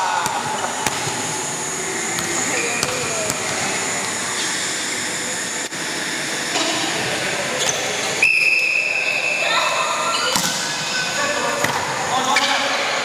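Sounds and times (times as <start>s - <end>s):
sports hall rushing noise: 0.0s - 13.0s.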